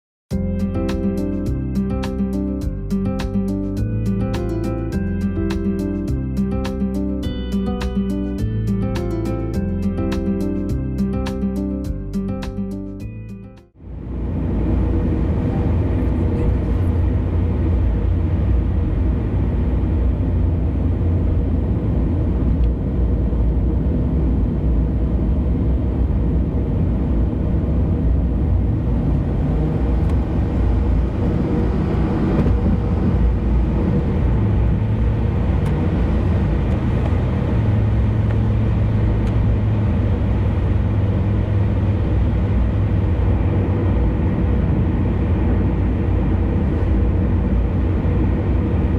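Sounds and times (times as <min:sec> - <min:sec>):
car tyres and engine rumbling: 0:00.3 - 0:48.9.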